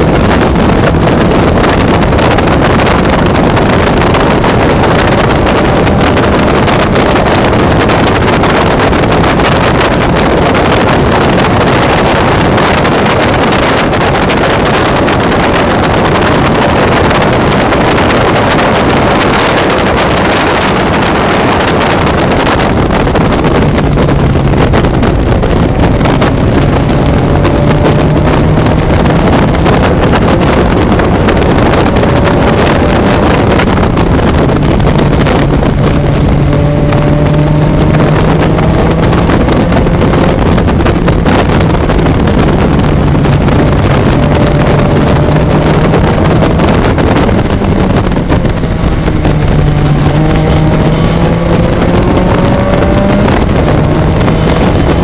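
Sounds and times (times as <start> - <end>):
race car engine revving: 0.0 - 55.0
wind buffeting microphone: 0.0 - 55.0.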